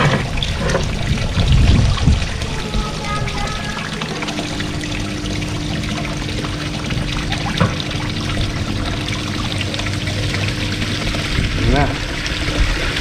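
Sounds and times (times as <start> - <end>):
air bubbles churning water: 0.0 - 13.0
steady low hum: 0.0 - 13.0
water pouring into pond: 0.0 - 13.0.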